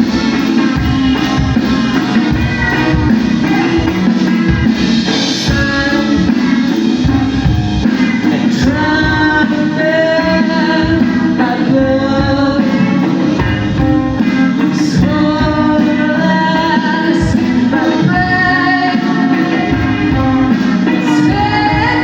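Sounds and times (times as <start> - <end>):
person singing: 0.0 - 22.0
rock band playing live: 0.0 - 22.0.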